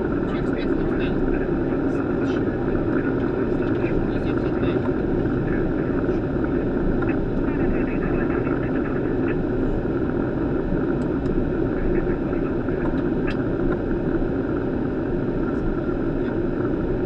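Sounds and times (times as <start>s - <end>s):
rushing air and engine noise: 0.0s - 17.0s.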